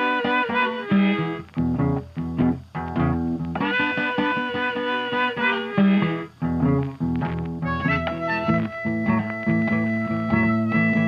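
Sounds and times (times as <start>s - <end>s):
guitar: 0.0s - 11.0s.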